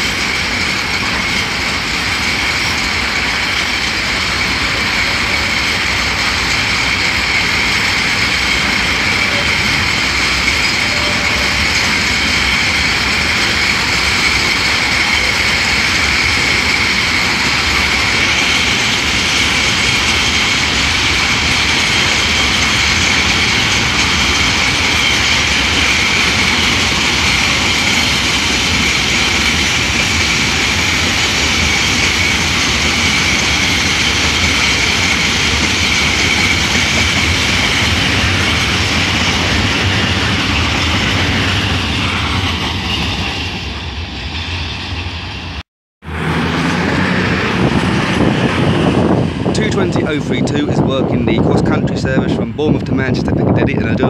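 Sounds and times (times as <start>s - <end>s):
high-pitched ringing: 0.0s - 45.6s
diesel train passing: 0.0s - 54.0s
freight train wheels clattering on rails: 0.0s - 54.0s.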